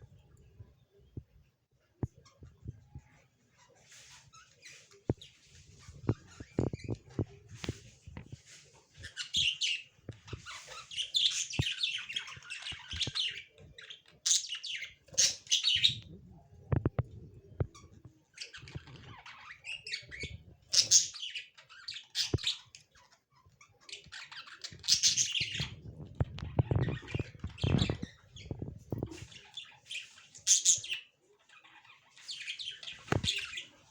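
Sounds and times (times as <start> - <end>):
lovebirds chirping: 2.1 - 33.9.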